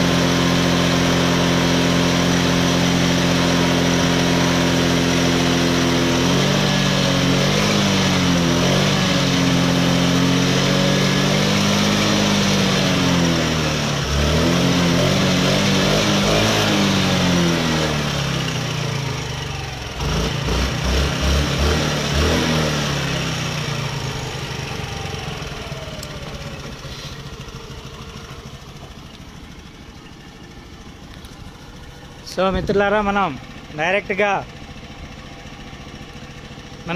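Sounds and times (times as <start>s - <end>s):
scooter engine running: 0.0s - 36.9s.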